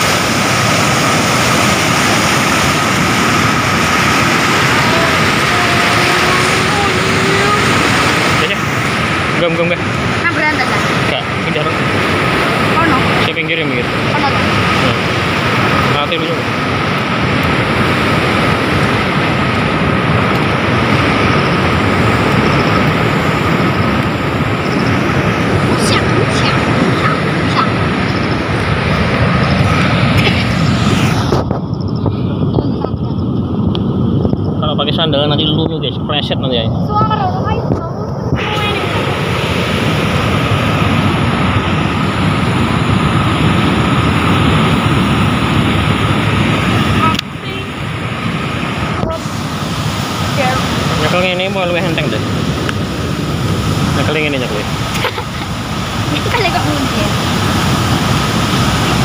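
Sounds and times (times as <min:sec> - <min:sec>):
rushing floodwater: 0:00.0 - 0:59.0.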